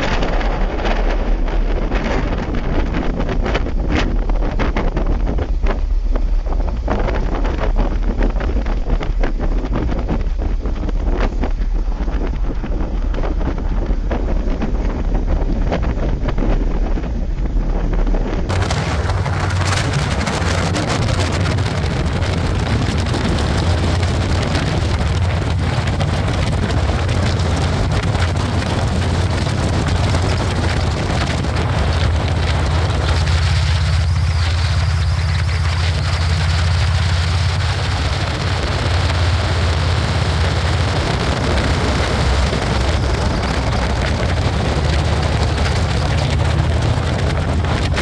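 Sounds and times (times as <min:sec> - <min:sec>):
motorcycle engine hum: 0:00.0 - 0:48.0
wind rushing on microphone: 0:00.0 - 0:48.0.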